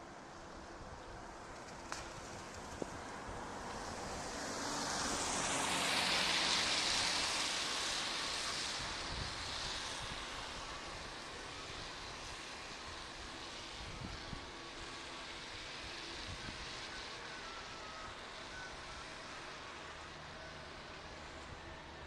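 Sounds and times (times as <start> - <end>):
tyre hiss on wet road: 1.9 - 22.0.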